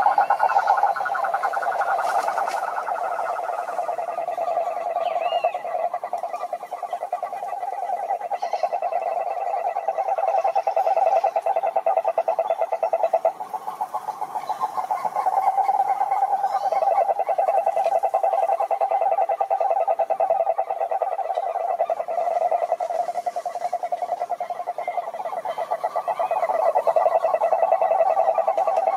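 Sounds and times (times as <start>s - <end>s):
toad trilling: 0.0s - 28.9s.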